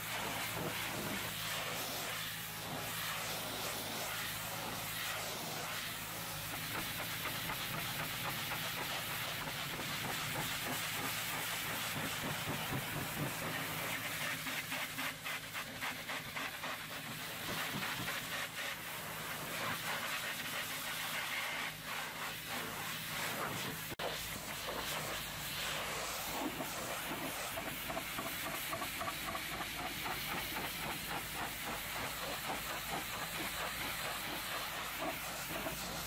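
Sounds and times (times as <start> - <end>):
high-pressure water jet hissing: 0.0 - 36.0.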